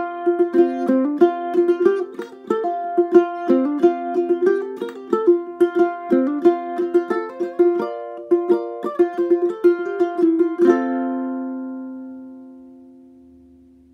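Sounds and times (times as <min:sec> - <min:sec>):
ukulele chord ringing out: 0:00.0 - 0:13.8
ukulele plucked notes: 0:00.0 - 0:13.9.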